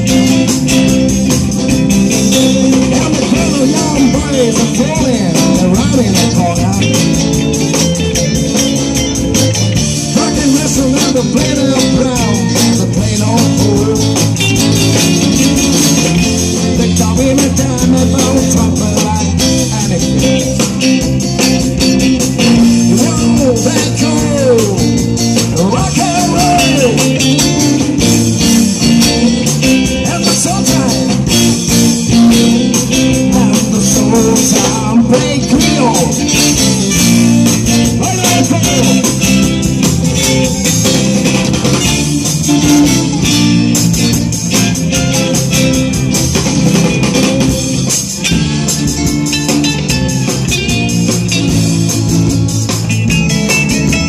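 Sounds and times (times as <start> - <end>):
electric guitars: 0.0 - 54.0
live rock band playing: 0.0 - 54.0
man singing: 1.9 - 8.6, 9.6 - 49.2.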